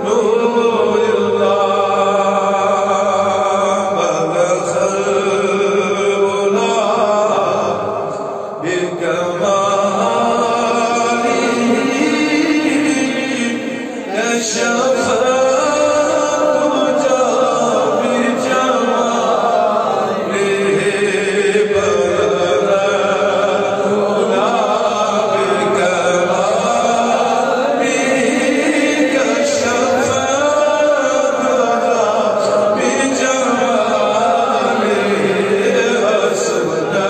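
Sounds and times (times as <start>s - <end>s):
person chanting melodically: 0.0s - 37.0s.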